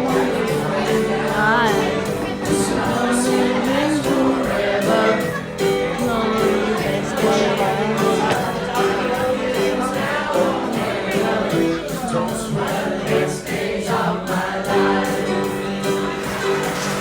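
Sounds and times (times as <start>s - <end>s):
crowd singing along: 0.0s - 17.0s
piano-bar music with steady beat: 0.0s - 17.0s.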